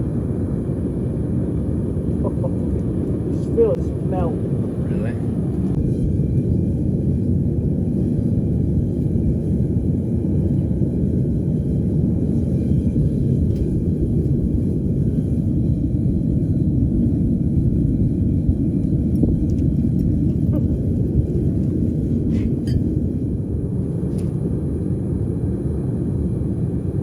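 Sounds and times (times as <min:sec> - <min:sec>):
furnace burners rumbling: 0:00.0 - 0:27.0.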